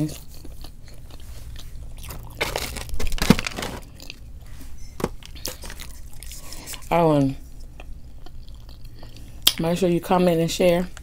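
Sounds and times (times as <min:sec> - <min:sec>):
person chewing and biting food: 0:00.0 - 0:04.5, 0:05.1 - 0:09.6.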